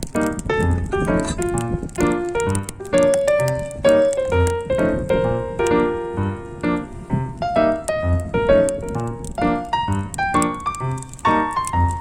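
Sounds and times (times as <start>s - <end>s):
keyboard melody: 0.0s - 12.0s.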